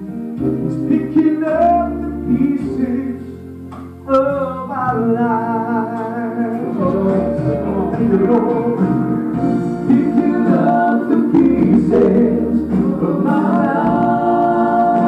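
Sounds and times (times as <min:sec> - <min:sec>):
instrumental accompaniment: 0:00.0 - 0:15.0
men singing gospel song: 0:00.9 - 0:03.4, 0:04.1 - 0:15.0.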